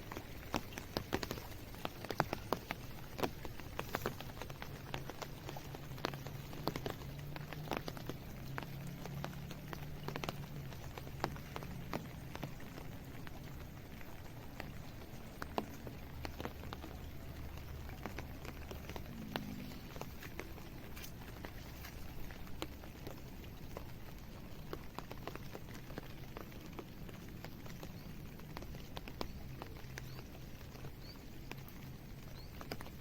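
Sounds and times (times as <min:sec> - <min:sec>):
rain hiss: 0:00.0 - 0:33.0
raindrops tapping on hard surfaces: 0:00.0 - 0:33.0.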